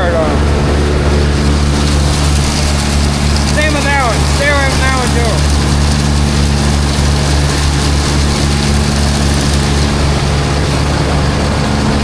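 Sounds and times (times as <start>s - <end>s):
blower rushing noise: 0.0s - 12.0s
tractor engine drone: 0.0s - 12.0s.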